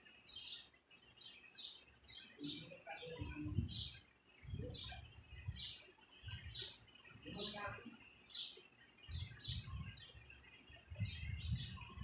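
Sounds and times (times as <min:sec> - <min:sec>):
low muffled noise: 0:00.0 - 0:12.0
small birds chirping: 0:00.0 - 0:12.0.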